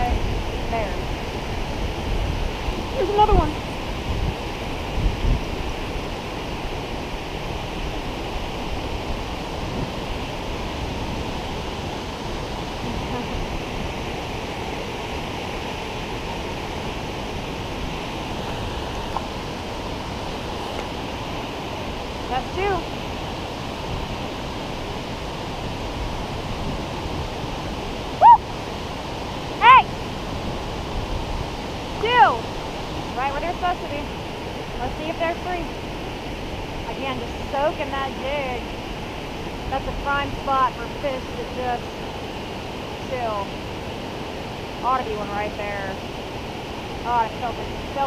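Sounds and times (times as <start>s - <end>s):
river water rushing over dam: 0.0s - 48.0s.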